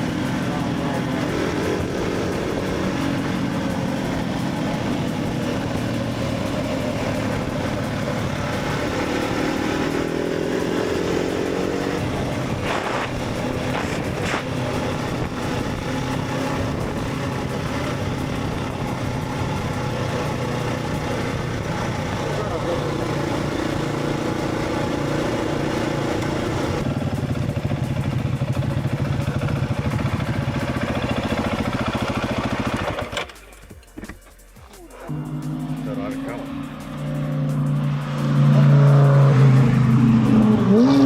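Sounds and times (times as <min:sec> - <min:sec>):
wind and road noise: 0:00.0 - 0:33.3, 0:35.1 - 0:41.0
motorcycle engine running: 0:00.0 - 0:41.0.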